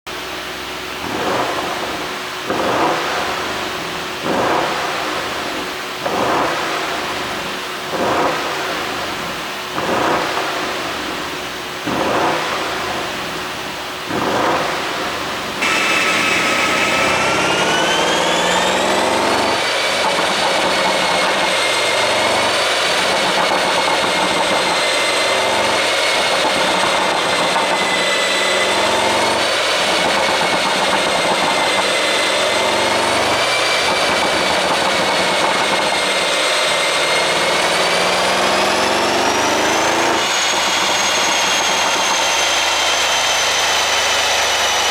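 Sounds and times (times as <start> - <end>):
engine drone with high whine: 0.1 - 44.9
car engine revving: 1.0 - 44.9.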